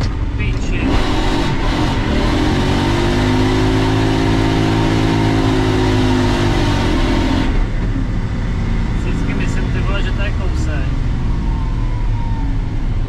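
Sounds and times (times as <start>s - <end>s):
car engine from inside cabin: 0.0s - 11.6s.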